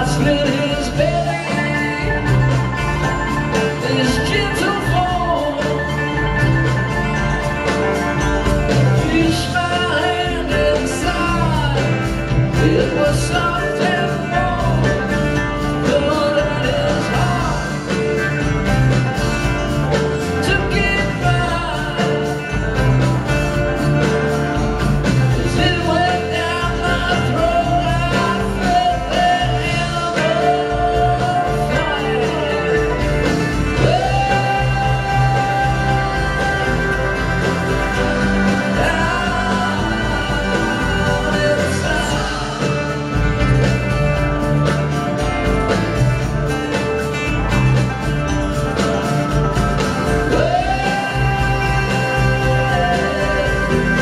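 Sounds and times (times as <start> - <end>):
man singing lead vocals: 0.0 - 43.7, 50.0 - 54.0
live string band music: 0.0 - 54.0.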